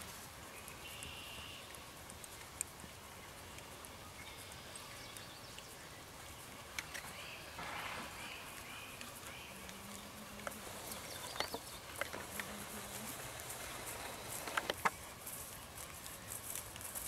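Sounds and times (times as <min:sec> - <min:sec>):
horse hoofbeats on grass: 0:00.0 - 0:17.0.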